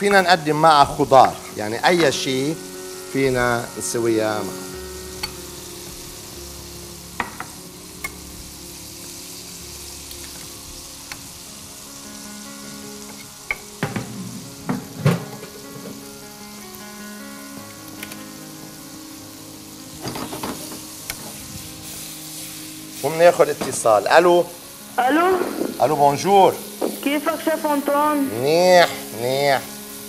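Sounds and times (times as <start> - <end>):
chicken sizzling in hot oil: 0.0 - 30.0.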